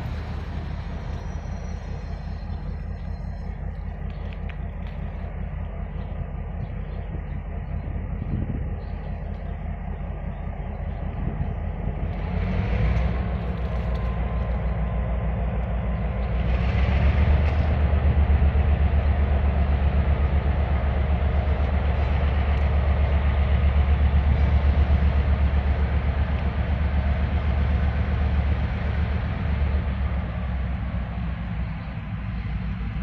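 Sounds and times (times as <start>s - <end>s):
diesel locomotive engine throbbing: 0.0s - 33.0s.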